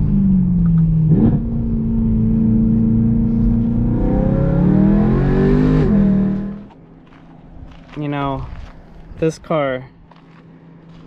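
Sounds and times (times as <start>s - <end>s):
car engine with loud exhaust: 0.0s - 9.3s, 10.0s - 11.0s.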